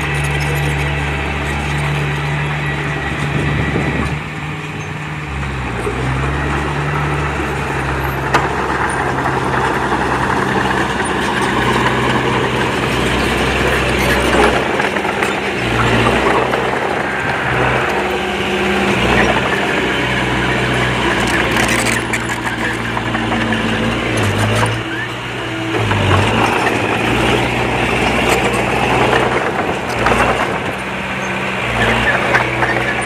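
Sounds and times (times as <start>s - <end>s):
heavy diesel engine under load: 0.0s - 33.0s.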